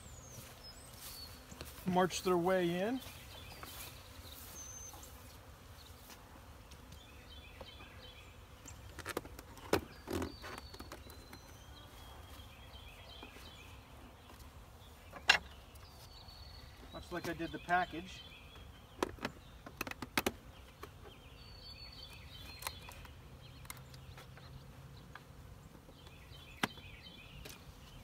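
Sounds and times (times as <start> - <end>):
honey bees buzzing: 0.0 - 28.0.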